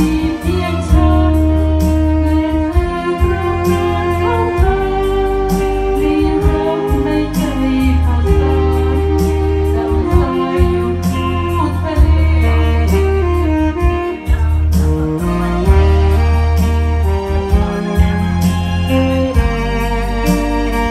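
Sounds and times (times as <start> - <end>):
slow melody over bass: 0.0 - 20.9.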